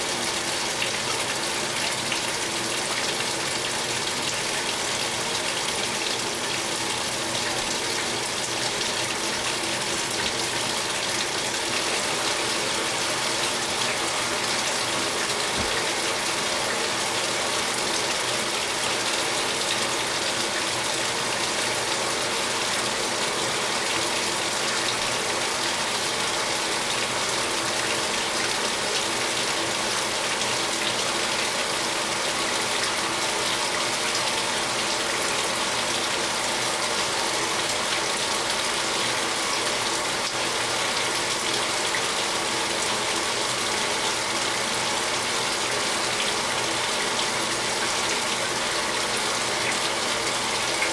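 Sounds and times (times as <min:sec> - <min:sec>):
mechanical hum: 0:00.0 - 0:50.9
water pouring into washing machine: 0:00.0 - 0:50.9.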